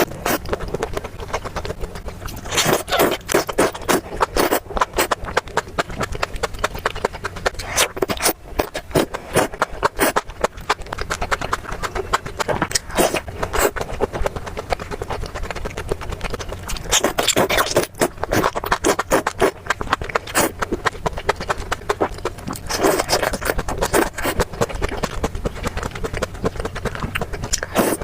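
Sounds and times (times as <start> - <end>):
biting food: 0.0 - 28.0
close chewing with wet clicks: 0.0 - 28.0.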